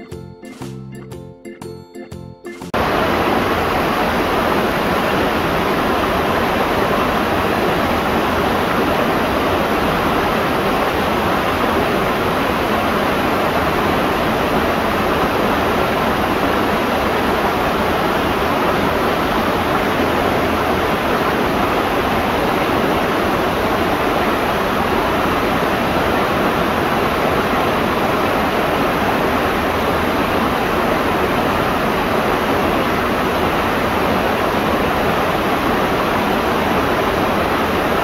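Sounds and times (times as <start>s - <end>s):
waterfall rushing: 2.8s - 38.0s.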